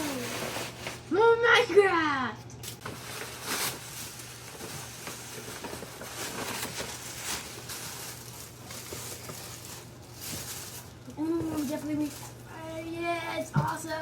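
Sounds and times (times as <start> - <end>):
wrapping paper rustling and tearing: 0.0 - 1.6, 2.6 - 14.0.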